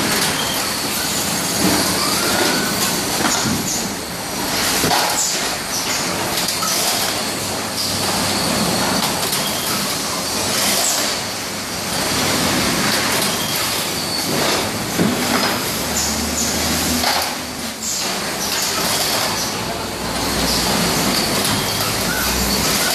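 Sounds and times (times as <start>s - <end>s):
conveyor mechanical clatter: 0.0s - 22.9s.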